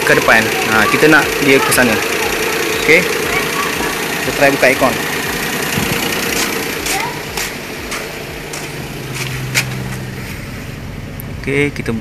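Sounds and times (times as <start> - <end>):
small car engine idling: 0.0 - 12.0.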